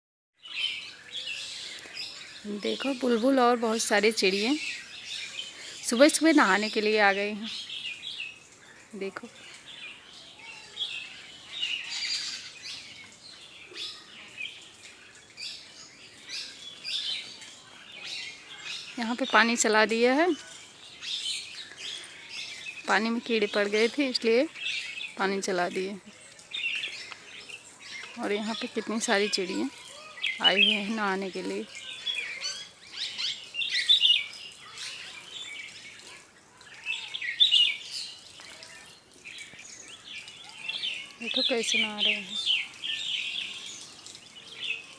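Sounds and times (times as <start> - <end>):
small birds chirping: 0.4 - 44.9.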